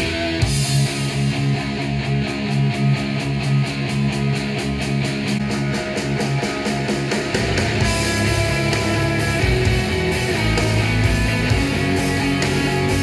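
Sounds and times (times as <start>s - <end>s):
rock song through speakers: 0.0s - 13.0s.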